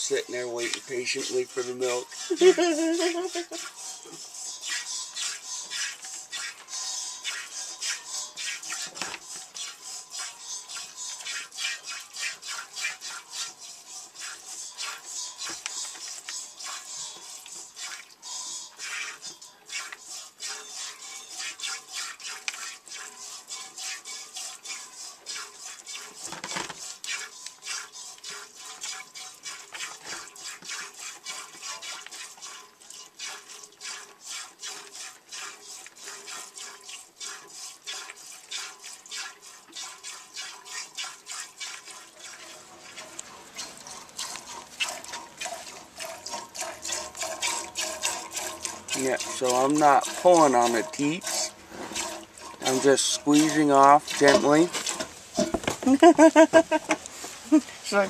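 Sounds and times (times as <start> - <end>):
milk squirting into a container: 0.0 - 56.0.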